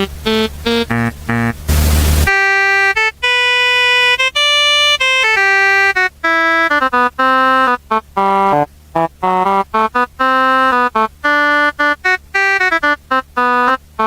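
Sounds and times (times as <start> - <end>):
electronic keyboard melody: 0.0 - 14.0.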